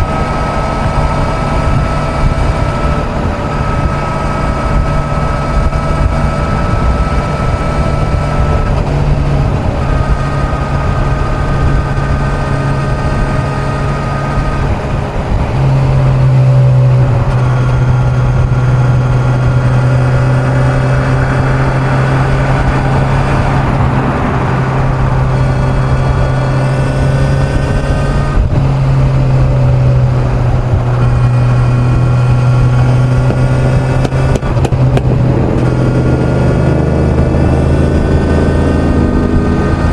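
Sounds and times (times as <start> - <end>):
motorcycle engine at speed: 0.0 - 39.9
wind and road noise: 0.0 - 39.9.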